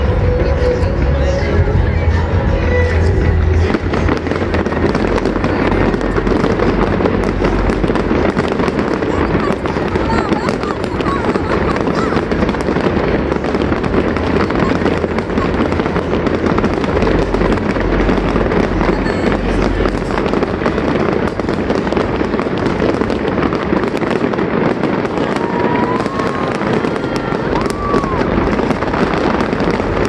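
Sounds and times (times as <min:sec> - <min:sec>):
fireworks booming bangs: 0:00.0 - 0:30.0
fireworks crackling and popping: 0:00.0 - 0:30.0.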